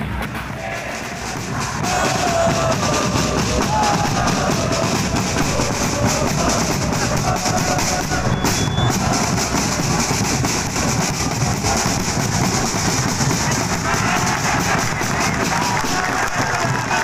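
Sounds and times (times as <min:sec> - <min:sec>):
bass and snare drums beating: 0:00.0 - 0:17.0.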